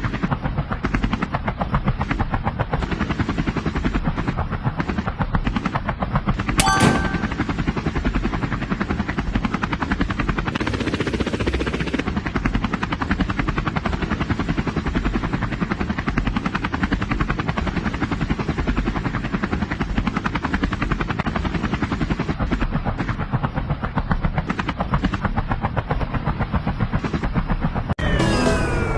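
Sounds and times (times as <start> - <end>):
helicopter rotor chopping: 0.0 - 28.9.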